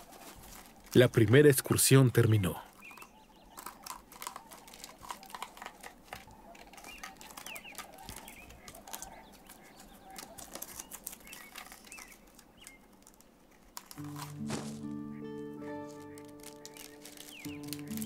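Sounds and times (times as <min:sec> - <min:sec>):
claws scratching on tree bark: 0:00.0 - 0:01.0, 0:02.7 - 0:14.9, 0:15.7 - 0:18.0
faint birds chirping: 0:00.0 - 0:18.0
twigs and branches crackling: 0:00.0 - 0:18.0.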